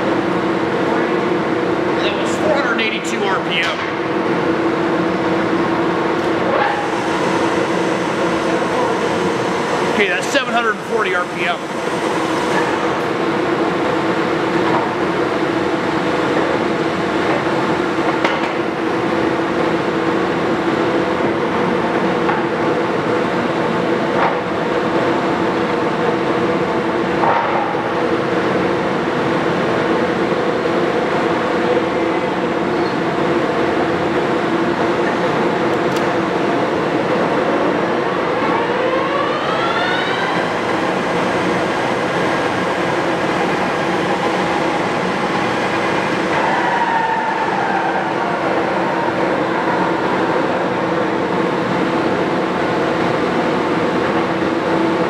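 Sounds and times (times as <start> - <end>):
lathe motor hum and whine: 0.0 - 55.0.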